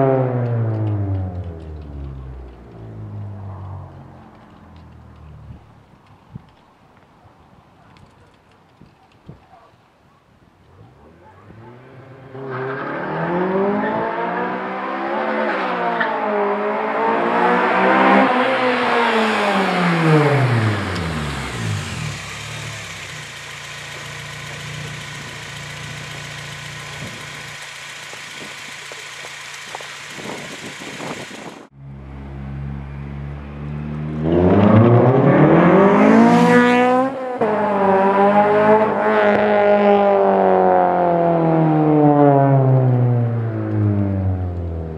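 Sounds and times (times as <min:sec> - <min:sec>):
car engine accelerating: 0:00.0 - 0:05.9, 0:10.8 - 0:44.9.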